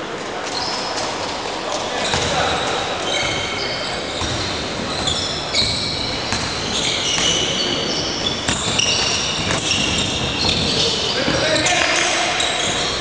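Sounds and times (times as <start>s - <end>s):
sneaker squeaks on floor: 0.5s - 1.2s, 2.0s - 13.0s
basketballs bouncing: 2.0s - 13.0s.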